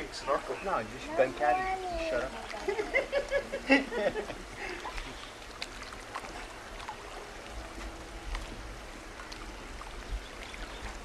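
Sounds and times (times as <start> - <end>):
pool water lapping and splashing: 0.0 - 11.0.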